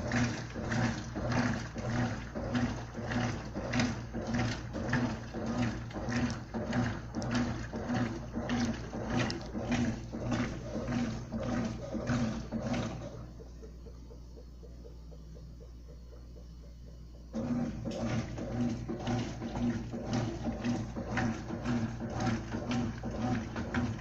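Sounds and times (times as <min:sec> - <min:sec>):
motor hum: 0:00.0 - 0:24.0
washing machine agitator swishing water: 0:00.0 - 0:24.0.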